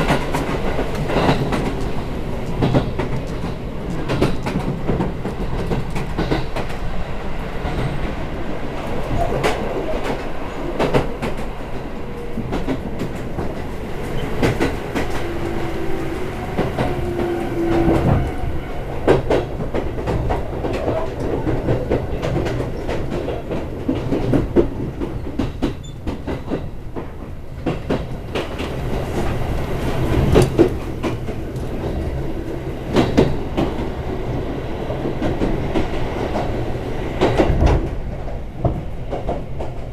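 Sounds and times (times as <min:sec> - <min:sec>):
wheels clicking over rail joints: 0:00.0 - 0:08.2, 0:08.8 - 0:39.9
train rumbling: 0:00.0 - 0:39.9.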